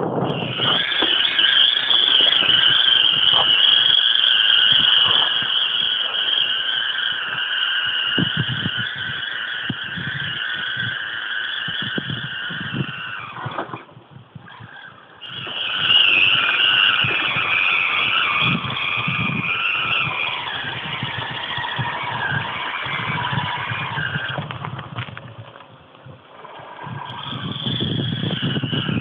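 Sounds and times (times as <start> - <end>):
electric motor whining: 0.1 - 29.0.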